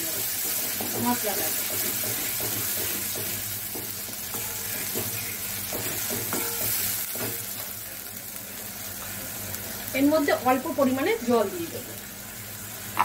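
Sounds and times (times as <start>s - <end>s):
spice paste sizzling in oil: 0.0s - 13.0s.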